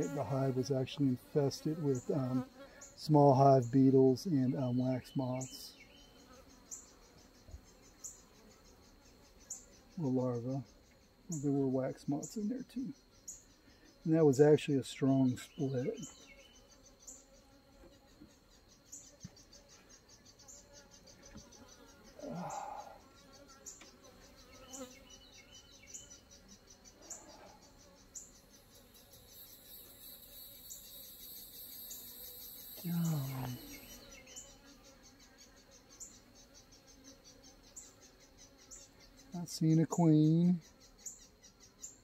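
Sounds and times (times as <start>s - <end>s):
honeybees buzzing: 0.0s - 42.0s
pulsing insect chirp: 0.0s - 42.0s.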